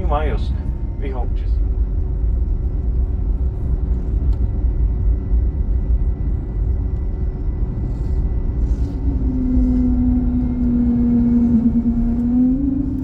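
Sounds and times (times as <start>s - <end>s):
low rumble inside airplane cabin: 0.0s - 13.0s.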